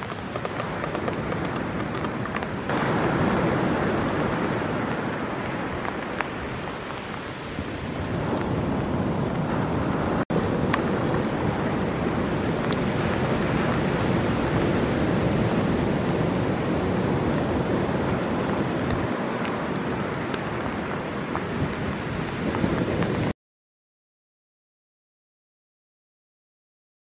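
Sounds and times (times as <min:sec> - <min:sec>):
ocean surf breaking: 0:00.0 - 0:23.3
wind buffeting microphone: 0:00.0 - 0:23.3.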